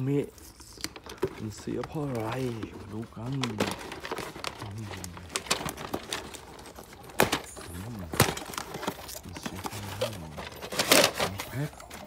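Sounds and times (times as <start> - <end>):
cardboard box rustling: 0.0 - 12.0.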